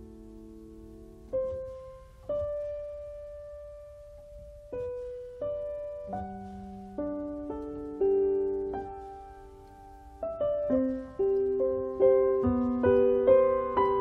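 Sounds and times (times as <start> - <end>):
gentle solo piano: 0.0 - 14.0.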